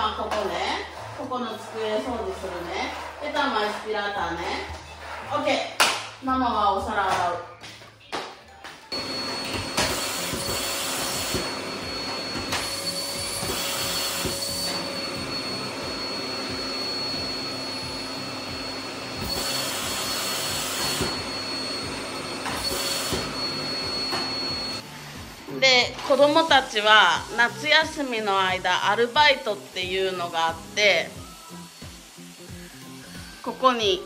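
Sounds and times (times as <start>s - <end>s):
vacuum cleaner running: 0.0s - 5.6s, 8.9s - 34.0s.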